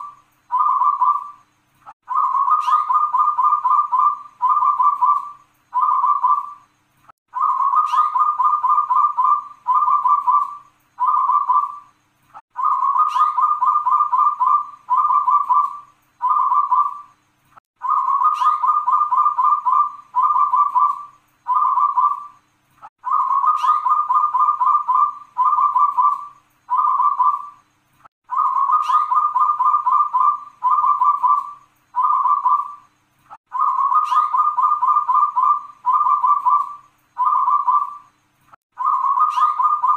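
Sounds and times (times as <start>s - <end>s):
dove cooing: 0.0s - 1.4s, 2.0s - 6.7s, 7.3s - 11.9s, 12.5s - 17.1s, 17.8s - 22.4s, 23.0s - 27.6s, 28.3s - 32.9s, 33.5s - 38.1s, 38.8s - 39.9s.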